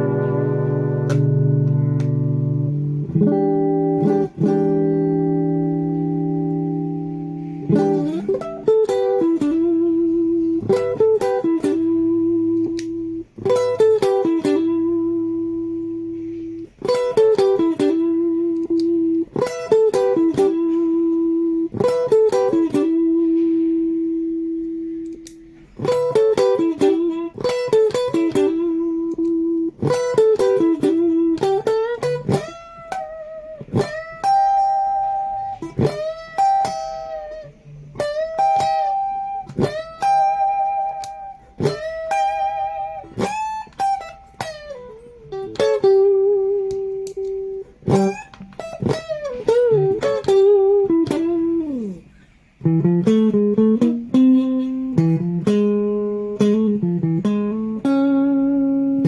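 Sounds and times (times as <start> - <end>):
electric guitar notes and chords: 0.0 - 59.0.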